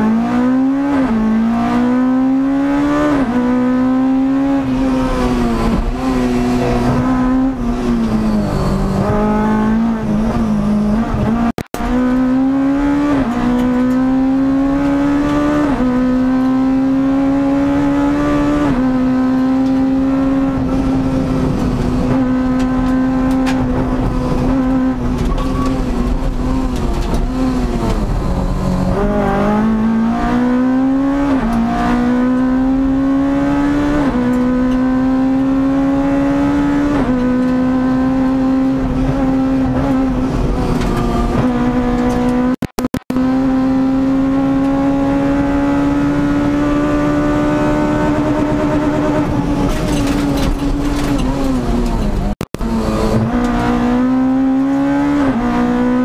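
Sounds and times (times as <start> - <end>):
rally car engine accelerating: 0.0 - 56.0.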